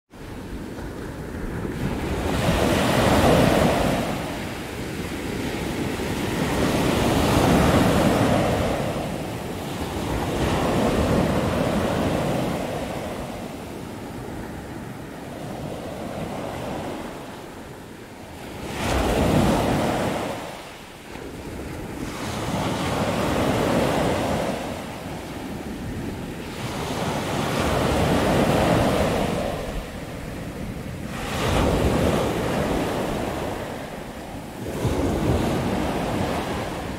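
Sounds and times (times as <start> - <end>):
ocean surf breaking on beach: 0.2 - 36.9
wind buffeting microphone: 0.2 - 36.9.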